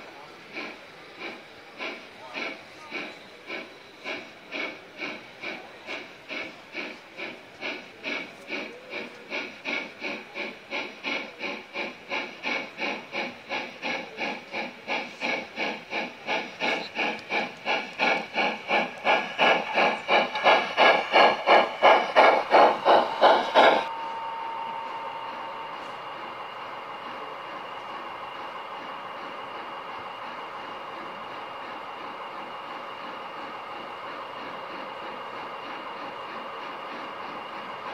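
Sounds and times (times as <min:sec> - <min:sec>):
model steam locomotive chuffing: 0:00.0 - 0:37.9.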